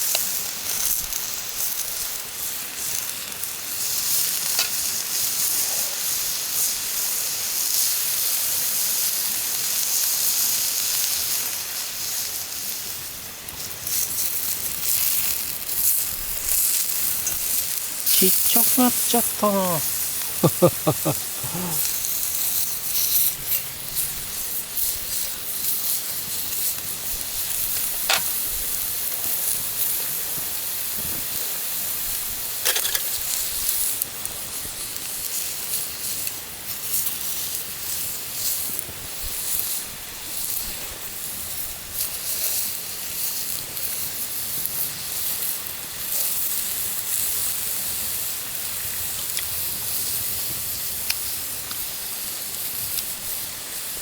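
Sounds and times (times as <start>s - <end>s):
crackles and pops of frying: 0.0s - 19.2s, 21.8s - 54.0s
food sizzling in a pan: 0.0s - 54.0s.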